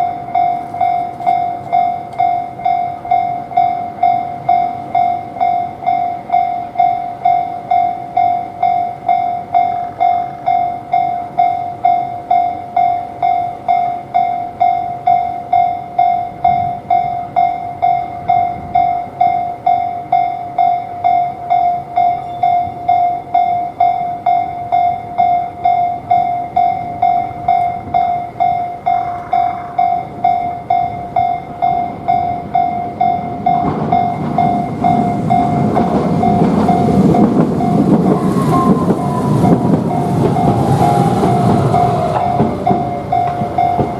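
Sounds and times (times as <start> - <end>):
railroad crossing alarm ringing: 0.0 - 43.9
tram running noise: 0.0 - 43.9.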